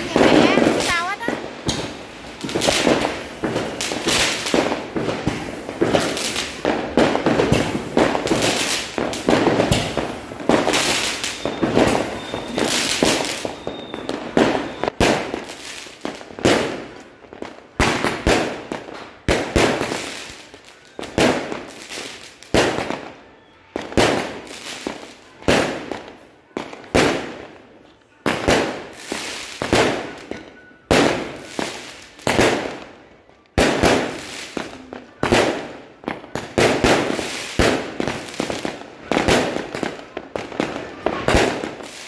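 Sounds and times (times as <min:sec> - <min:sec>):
fireworks banging: 0:00.0 - 0:23.2, 0:23.8 - 0:32.9, 0:33.6 - 0:42.0.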